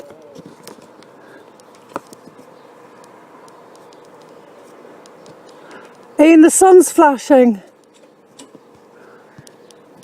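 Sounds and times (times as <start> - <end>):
faint electrical clicks: 0.0 - 6.2, 7.6 - 10.0.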